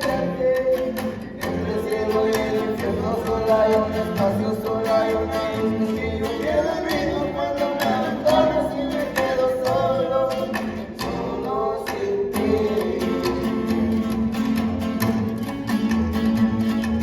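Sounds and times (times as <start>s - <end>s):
strummed guitars: 0.0s - 17.0s.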